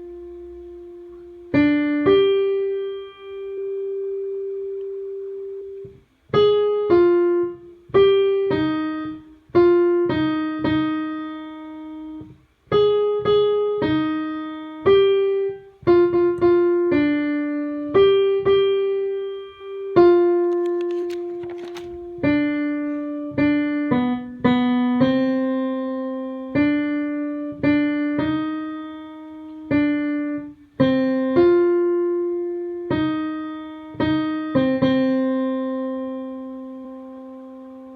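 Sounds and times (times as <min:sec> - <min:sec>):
piano playing single notes: 0:00.0 - 0:37.9.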